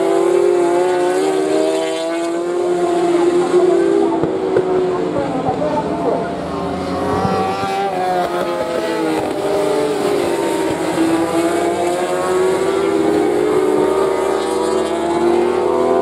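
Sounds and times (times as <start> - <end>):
motorbikes racing: 0.0 - 16.0.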